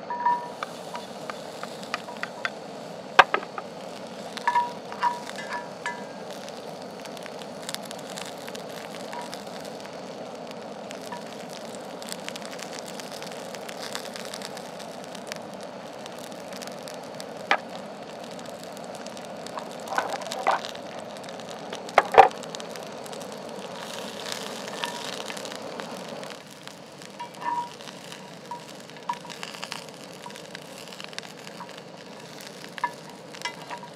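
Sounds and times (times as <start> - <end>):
meat sizzling in a pan: 0.0 - 33.9.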